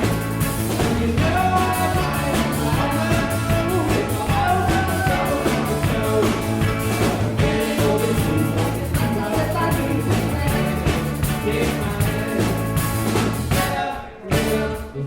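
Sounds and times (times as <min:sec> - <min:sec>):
accordion lead melody: 0:00.0 - 0:14.5
bass line: 0:00.0 - 0:15.0
drum beat: 0:00.0 - 0:15.0
guitar: 0:00.0 - 0:15.0.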